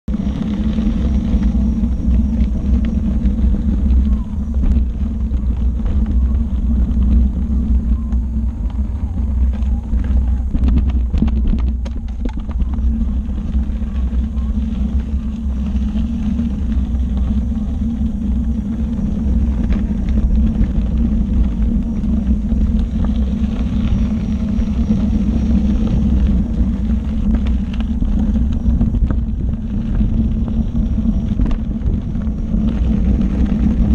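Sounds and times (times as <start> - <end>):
electric unicycle rumble: 0.0 - 33.9
wind buffeting microphone: 0.0 - 33.9.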